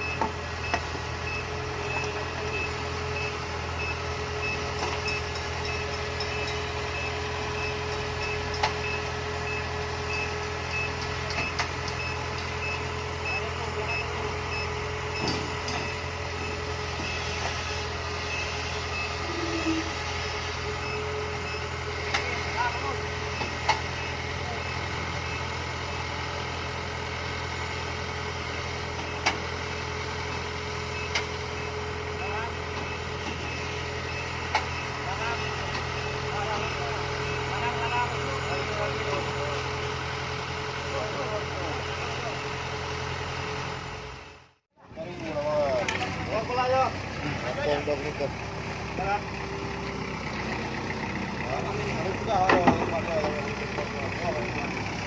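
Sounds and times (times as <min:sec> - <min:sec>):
reversing alarm beeping: 0:00.0 - 0:44.4
diesel engine running: 0:00.0 - 0:55.0.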